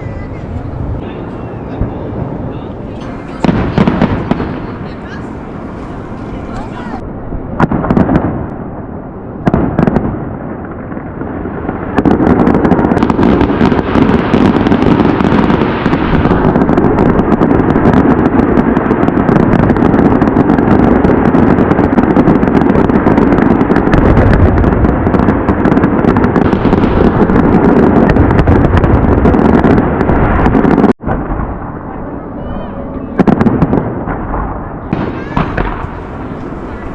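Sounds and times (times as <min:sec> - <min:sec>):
firework booms: 0:00.0 - 0:36.9
fireworks barrage of bangs and crackling: 0:00.0 - 0:36.9.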